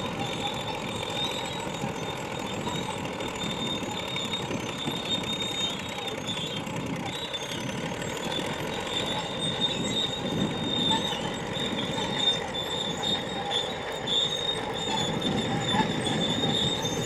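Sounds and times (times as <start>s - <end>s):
crawler tracks squealing and clattering: 0.0s - 17.0s.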